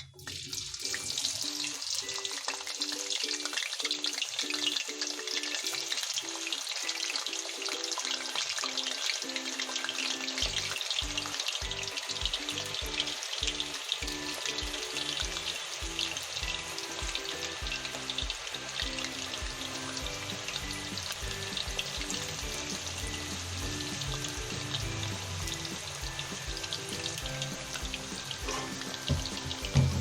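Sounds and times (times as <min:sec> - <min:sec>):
food sizzling in hot oil: 0:00.0 - 0:30.0
soft background music: 0:00.0 - 0:30.0.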